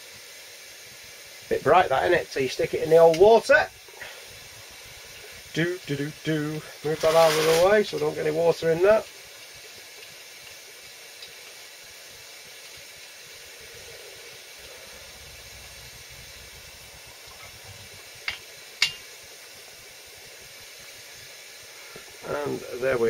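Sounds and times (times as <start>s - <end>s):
hot metal sizzling in water: 0.0s - 23.0s.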